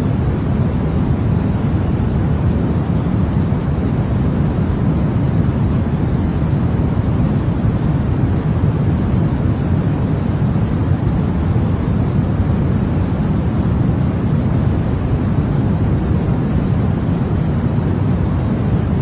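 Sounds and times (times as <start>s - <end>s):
white noise rush: 0.0s - 19.0s.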